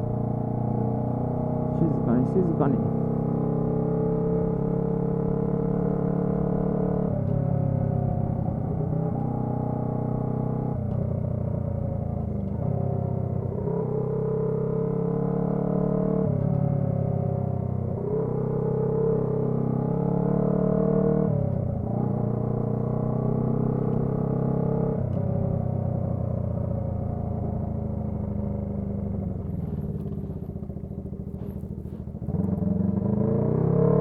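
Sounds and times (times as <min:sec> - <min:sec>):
motorcycle engine and exhaust: 0:00.0 - 0:34.0.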